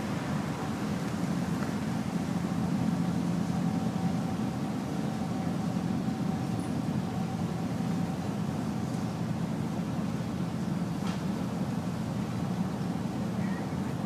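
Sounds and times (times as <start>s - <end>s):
boat engine humming: 0.0s - 14.0s
faint steady whine: 0.0s - 14.0s.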